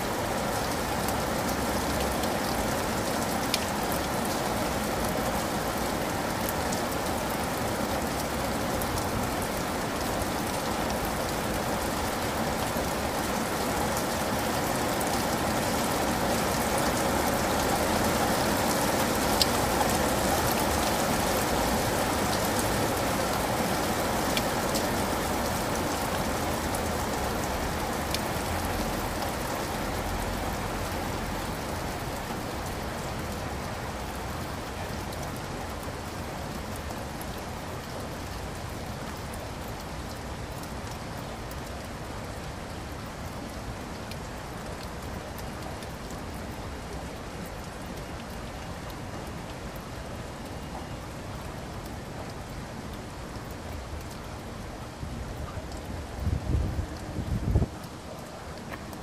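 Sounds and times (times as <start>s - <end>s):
steady rain hiss: 0.0s - 59.0s
rain drop clicks: 0.1s - 59.0s.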